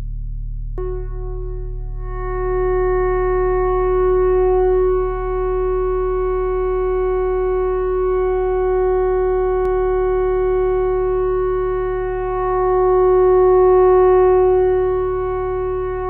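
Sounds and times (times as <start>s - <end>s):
theremin holding a note: 0.8s - 16.0s.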